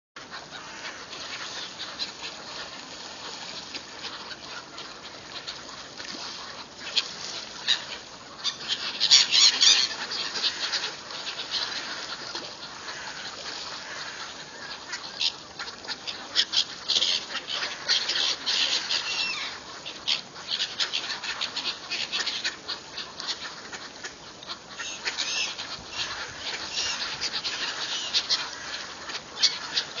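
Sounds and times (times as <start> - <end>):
gulls and ducks calling: 0.2 - 30.0.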